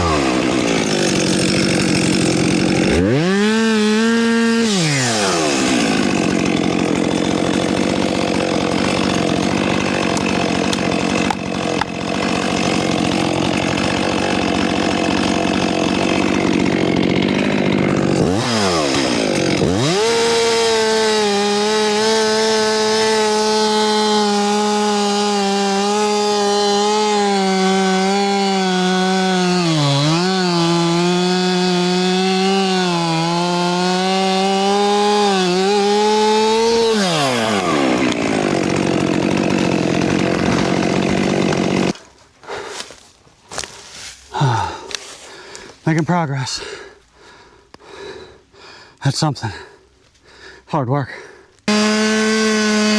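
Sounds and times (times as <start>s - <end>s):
chainsaw cutting into tree: 0.0s - 48.3s, 51.6s - 52.9s.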